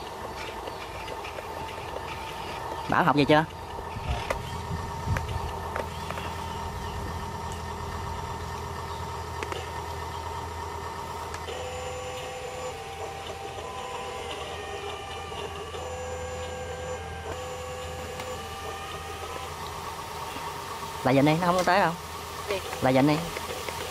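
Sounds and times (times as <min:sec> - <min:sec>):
low hum: 0:00.0 - 0:23.4
electric motors whining: 0:00.0 - 0:23.9.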